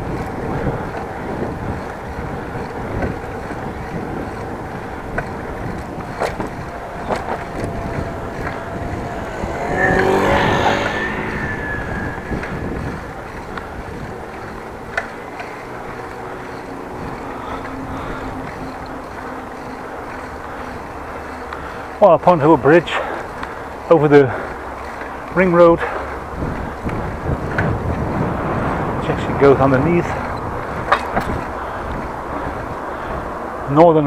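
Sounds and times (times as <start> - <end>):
bicycle clicks and rattles: 0.0 - 9.7, 11.7 - 34.0
bicycle tyre and wind rush: 0.0 - 34.0
motor vehicle passing: 0.0 - 34.0.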